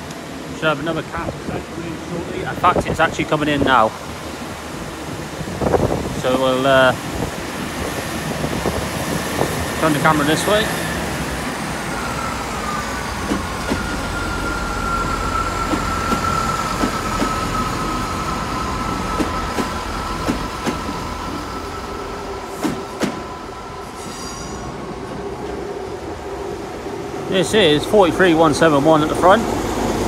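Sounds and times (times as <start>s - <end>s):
train engine rumble: 0.0s - 30.0s.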